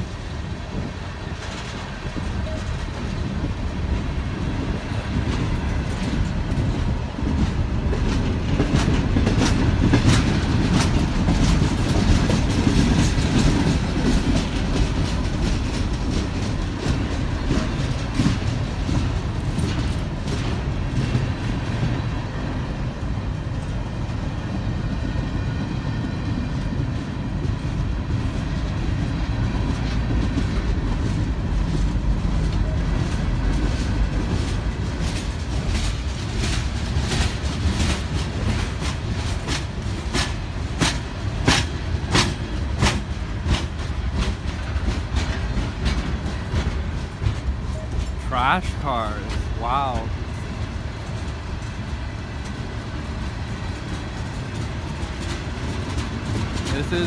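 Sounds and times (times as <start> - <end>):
train wheels clicking over rail joints: 0.0 - 48.3, 49.3 - 57.0
freight train rumble: 0.0 - 57.0.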